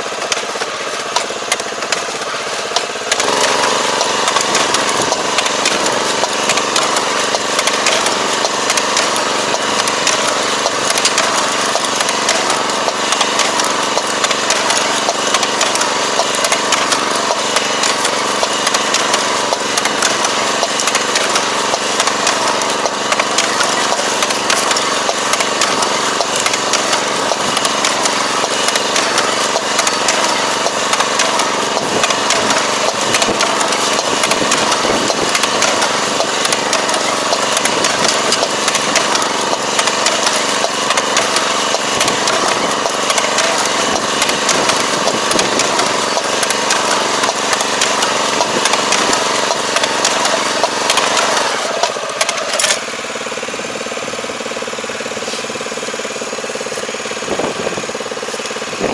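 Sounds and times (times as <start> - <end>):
planting mechanism clattering: 0.0 - 53.0
engine droning: 0.0 - 58.9.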